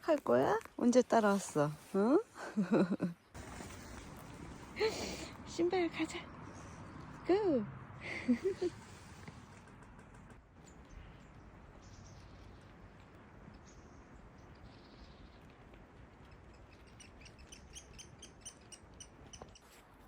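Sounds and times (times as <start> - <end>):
forest birds chirping: 3.2 - 19.8.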